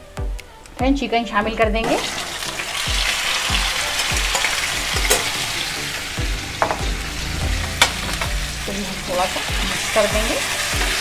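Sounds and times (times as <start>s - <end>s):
chicken sizzling in hot oil: 1.8s - 11.0s.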